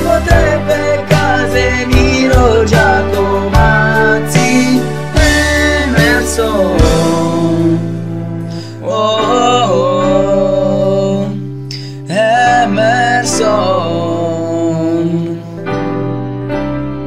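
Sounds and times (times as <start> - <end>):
person singing: 0.0 - 16.0
guitar accompaniment: 0.0 - 17.0.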